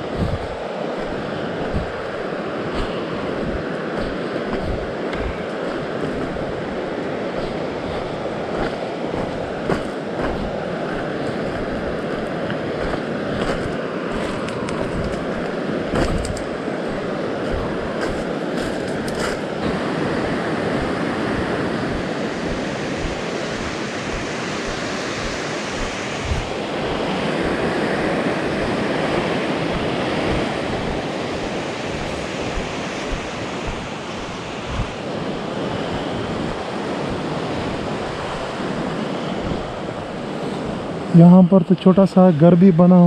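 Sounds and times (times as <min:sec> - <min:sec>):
wind rumbling on microphone: 0:00.0 - 0:41.2
river rushing over rapids: 0:00.0 - 0:41.3.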